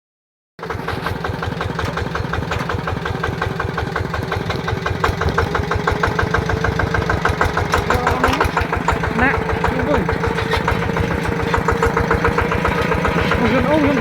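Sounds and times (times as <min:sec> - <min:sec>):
diesel engine chugging: 0:00.6 - 0:14.0.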